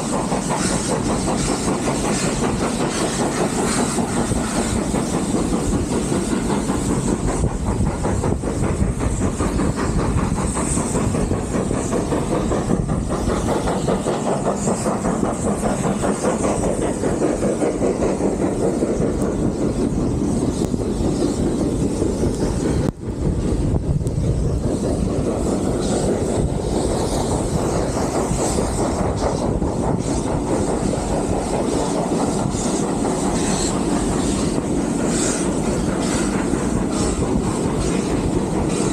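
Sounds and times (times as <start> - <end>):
train carriages rumbling on track: 0.0 - 38.9
train wheel clatter: 0.0 - 38.9.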